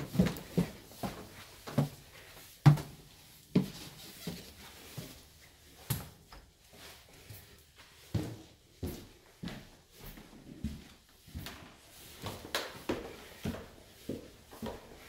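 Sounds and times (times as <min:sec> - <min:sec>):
footsteps on staircase: 0:00.0 - 0:15.0.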